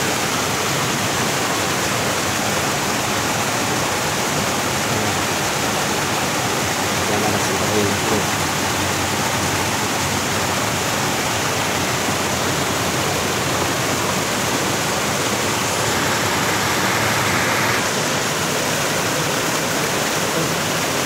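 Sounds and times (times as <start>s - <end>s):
water pouring over waterfall: 0.0s - 21.0s.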